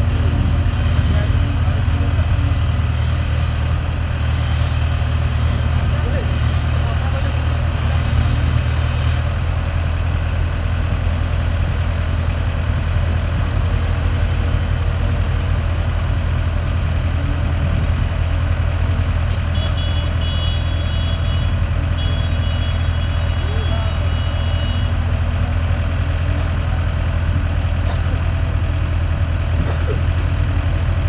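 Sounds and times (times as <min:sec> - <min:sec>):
excavator diesel engines running: 0:00.0 - 0:31.0.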